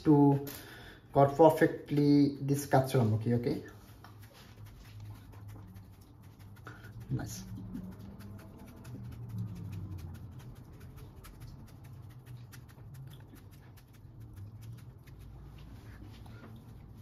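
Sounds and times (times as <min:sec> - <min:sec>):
knife shaving cucumber crackling: 0:02.9 - 0:17.0.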